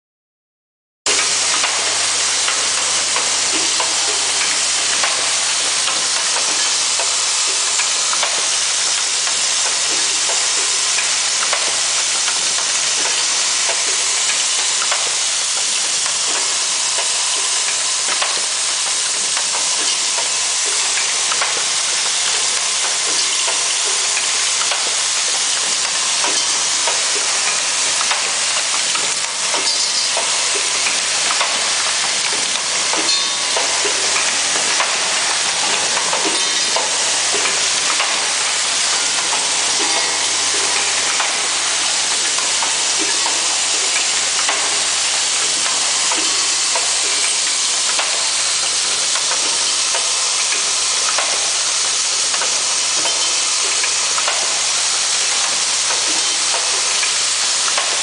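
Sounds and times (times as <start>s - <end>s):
machine clicks and knocks: 1.1s - 58.0s.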